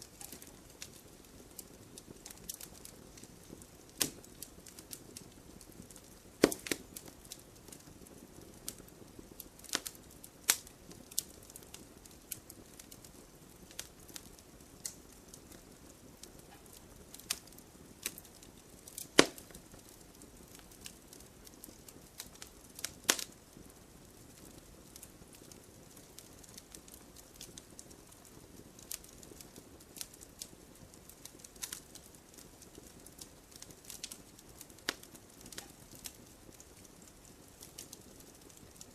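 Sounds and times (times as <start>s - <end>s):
fire crackling and popping: 0.0s - 38.9s
soft low hiss: 0.0s - 38.9s.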